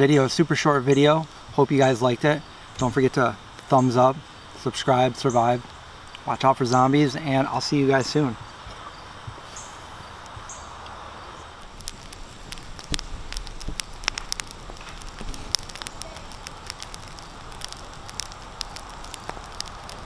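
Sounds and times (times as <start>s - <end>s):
campfire crackling and popping: 0.0s - 20.0s
steady hiss: 0.0s - 20.0s.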